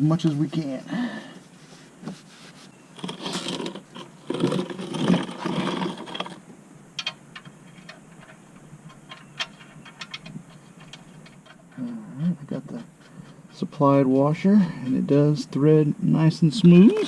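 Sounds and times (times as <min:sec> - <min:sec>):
rustling and scraping: 0:00.0 - 0:15.2.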